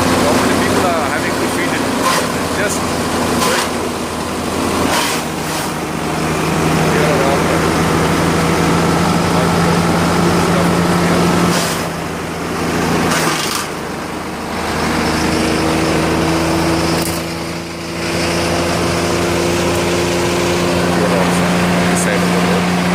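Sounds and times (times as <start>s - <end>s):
chipper-shredder engine running: 0.0s - 22.9s.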